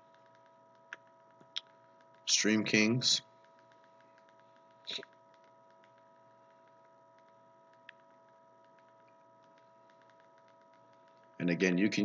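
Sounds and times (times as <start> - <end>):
faint ticks: 0.0 - 2.3, 3.3 - 11.4
faint electrical whine: 0.0 - 12.0.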